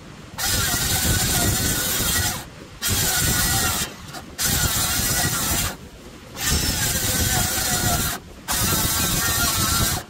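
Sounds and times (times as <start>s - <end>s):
circular saw cutting wood: 0.4s - 5.8s, 6.4s - 10.0s.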